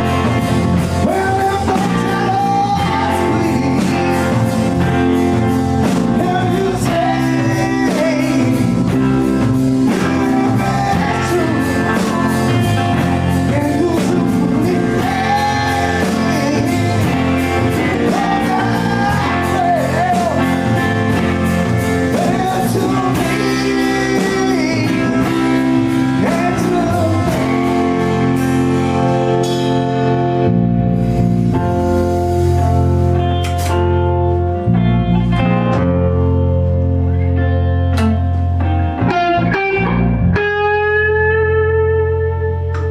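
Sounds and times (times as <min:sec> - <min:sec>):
blues-rock band playing live: 0:00.0 - 0:42.9
wavering electric guitar lead: 0:00.0 - 0:42.9.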